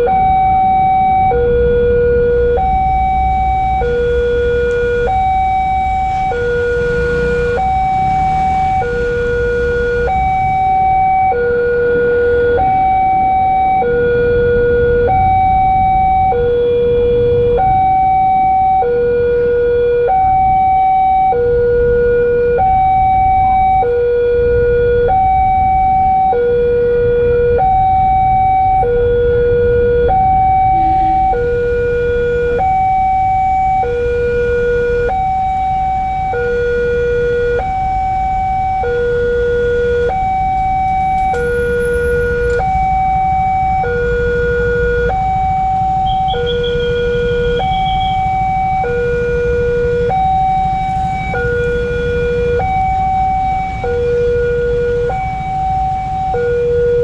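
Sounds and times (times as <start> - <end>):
level-crossing two-tone alarm: 0.0 - 57.0
road traffic rumble: 0.0 - 57.0.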